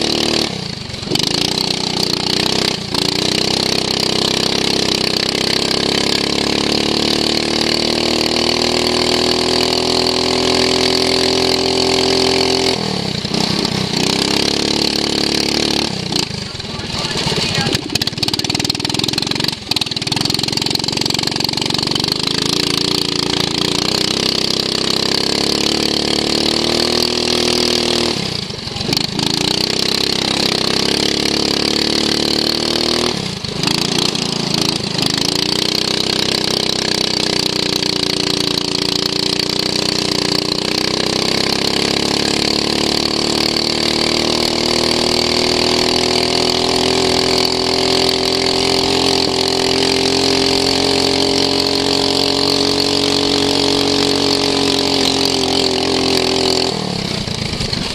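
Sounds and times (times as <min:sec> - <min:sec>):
lawn mower engine running hard: 0:00.0 - 0:57.9.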